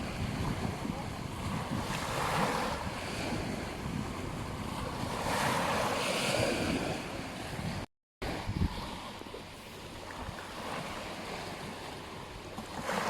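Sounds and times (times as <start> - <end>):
wind buffeting microphone: 0.0 - 11.8
ocean surf on beach: 0.0 - 13.0.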